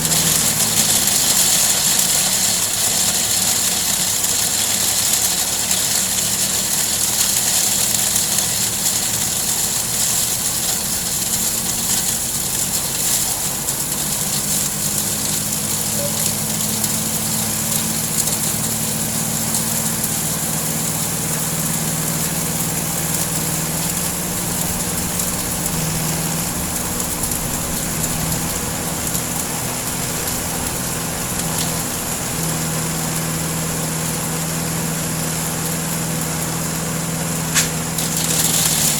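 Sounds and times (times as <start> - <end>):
grinder rattling hiss: 0.0 - 38.9
small engine running: 0.0 - 38.9.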